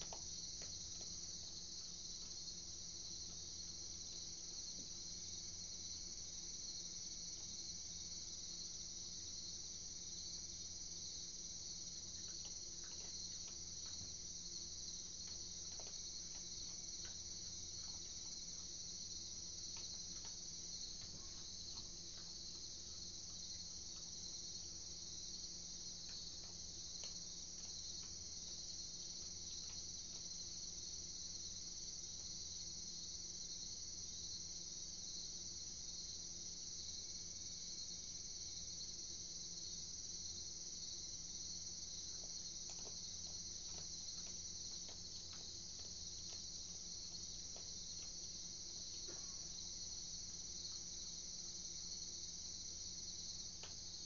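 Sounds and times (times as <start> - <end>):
crickets chirring: 0.0 - 54.0
faint low hum: 0.0 - 54.0.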